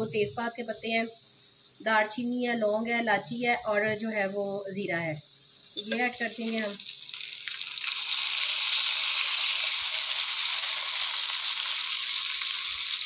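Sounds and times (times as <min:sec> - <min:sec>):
spices and onions sizzling: 0:00.0 - 0:13.0.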